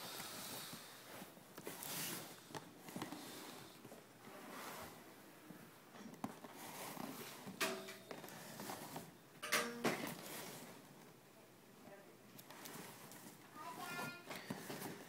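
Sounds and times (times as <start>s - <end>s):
faint rustling and handling: 0.0s - 9.2s, 9.9s - 15.0s.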